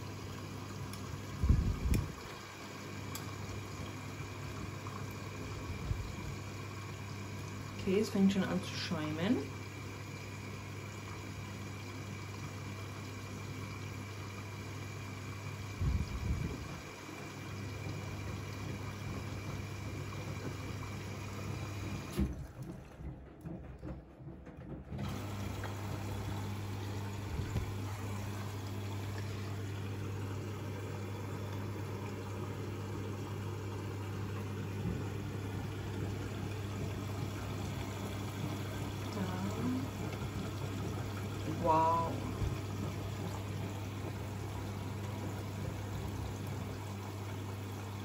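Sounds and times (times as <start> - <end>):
washing machine motor hum: 0.0 - 48.0
water sloshing in washing machine: 0.0 - 48.0.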